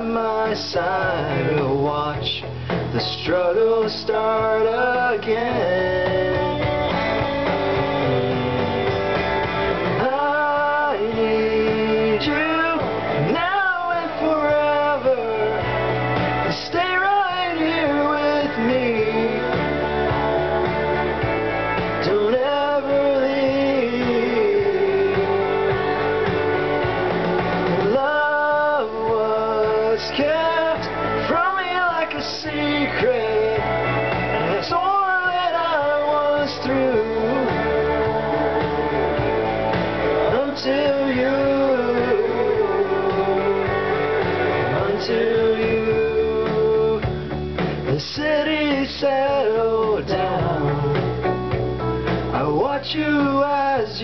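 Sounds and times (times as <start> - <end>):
man singing: 0.0 - 51.5, 52.1 - 54.0
acoustic guitar: 0.0 - 54.0.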